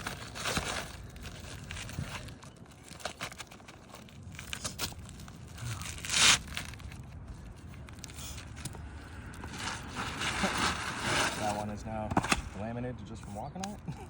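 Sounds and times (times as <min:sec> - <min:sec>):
shingle tearing: 0:00.0 - 0:12.6
shingles crackling: 0:00.0 - 0:12.6.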